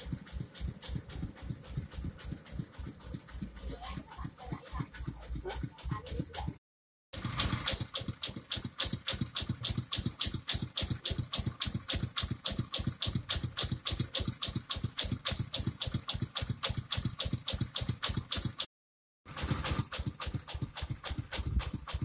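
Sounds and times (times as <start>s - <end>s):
rice milling machine thumping: 0.0s - 6.6s, 7.2s - 18.6s, 19.3s - 22.0s.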